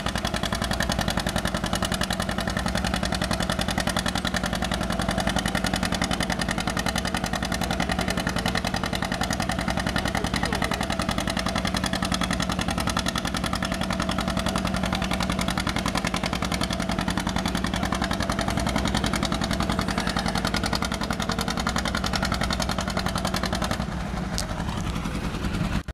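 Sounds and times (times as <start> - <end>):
tractor engine running under load: 0.0 - 25.9.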